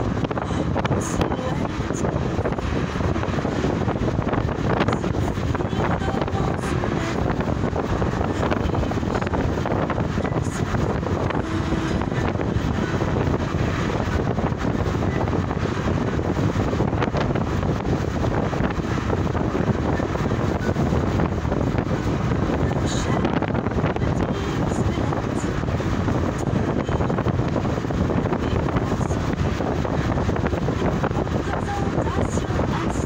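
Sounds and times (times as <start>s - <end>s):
road noise from moving car: 0.0s - 33.0s
wind buffeting microphone: 0.0s - 33.0s
wind rush: 0.0s - 33.0s.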